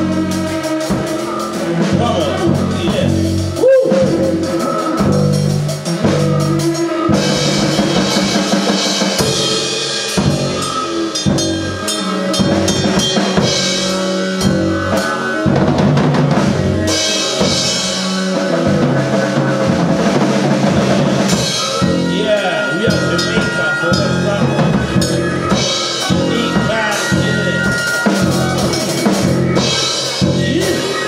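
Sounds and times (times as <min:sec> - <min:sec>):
drum kit playing: 0:00.0 - 0:31.0
sustained low band notes: 0:00.0 - 0:31.0.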